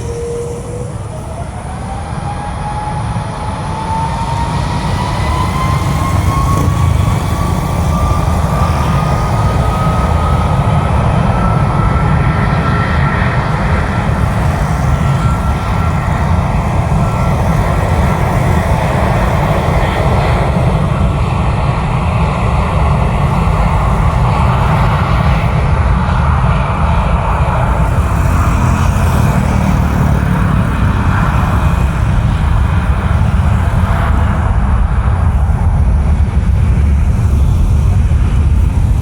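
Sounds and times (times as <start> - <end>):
jet engines rumbling and roaring: 0.0 - 39.0.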